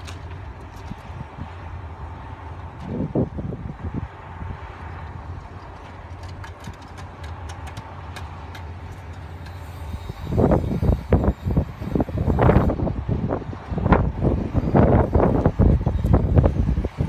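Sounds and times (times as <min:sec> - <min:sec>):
diesel engine humming: 0:00.0 - 0:17.0
wind buffeting microphone: 0:00.0 - 0:17.0.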